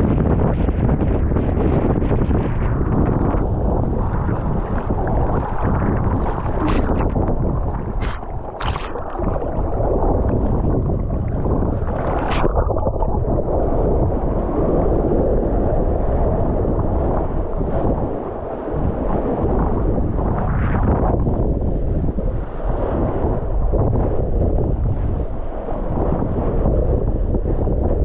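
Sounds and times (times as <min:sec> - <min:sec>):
board rushing over water: 0:00.0 - 0:28.0
wind on microphone: 0:00.0 - 0:28.0.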